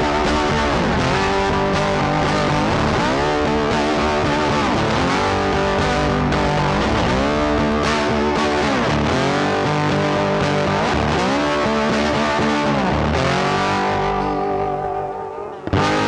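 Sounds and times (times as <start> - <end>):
distorted electric guitar music: 0.0 - 16.0.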